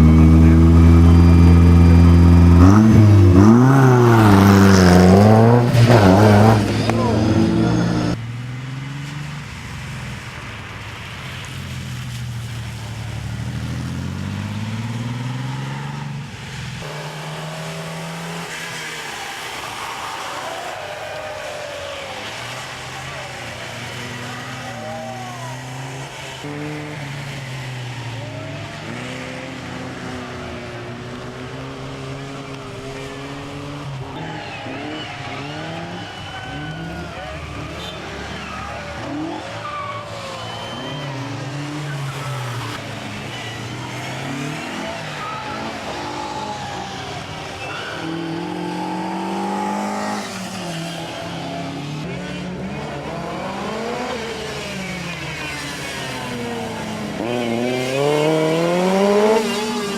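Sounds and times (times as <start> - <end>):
rally car engine holding steady: 0.0 - 20.5, 21.3 - 59.9
rally car engine revving: 0.0 - 59.9.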